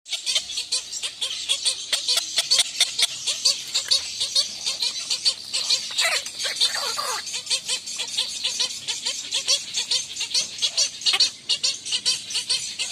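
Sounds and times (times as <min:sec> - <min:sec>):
bird squeaky calls: 0:00.1 - 0:12.9.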